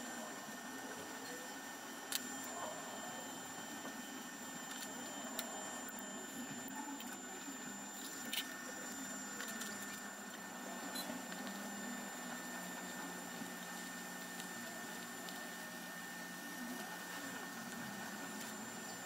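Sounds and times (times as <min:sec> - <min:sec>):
faint steady high whine: 0:00.0 - 0:19.0.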